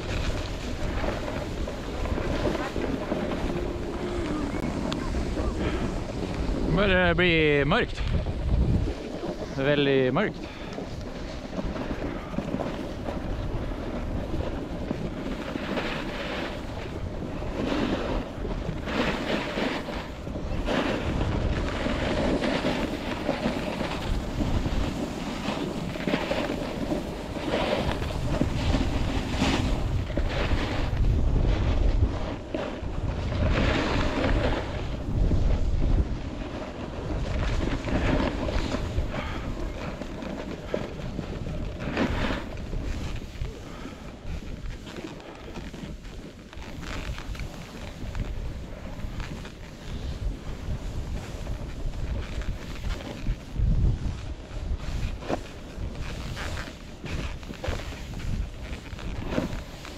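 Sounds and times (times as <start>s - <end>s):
skis scraping on snow: 0.0s - 59.9s
wind buffeting microphone: 0.0s - 59.9s.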